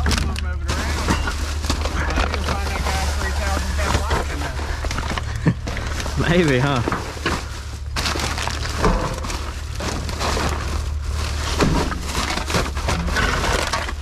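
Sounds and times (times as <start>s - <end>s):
junk clattering in metal dumpster: 0.0s - 14.0s
steady low hum: 0.0s - 14.0s.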